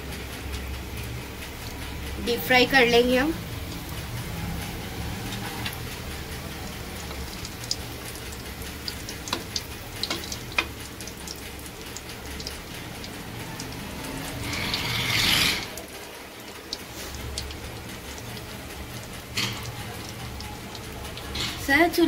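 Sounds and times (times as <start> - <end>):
chicken deep-frying in hot oil: 0.0 - 22.0
oil popping and crackling: 0.3 - 22.0.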